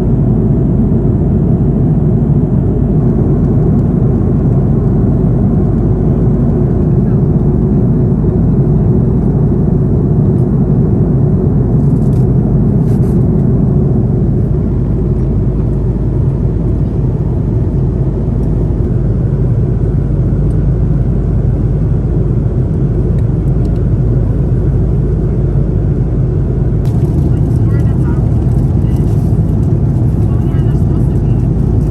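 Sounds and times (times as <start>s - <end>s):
airliner cabin engine rumble: 0.0s - 31.9s.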